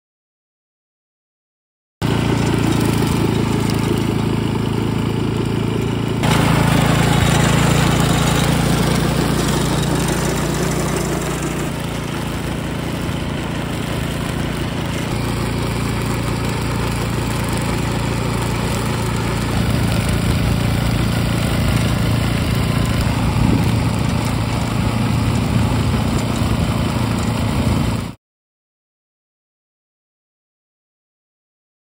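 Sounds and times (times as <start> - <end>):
small engine running under load: 2.0 - 28.2.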